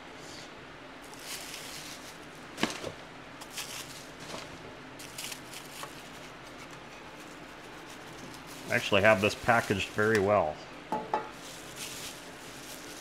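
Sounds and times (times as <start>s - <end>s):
foam and plastic wrap rustling: 1.0s - 10.6s, 11.3s - 13.0s.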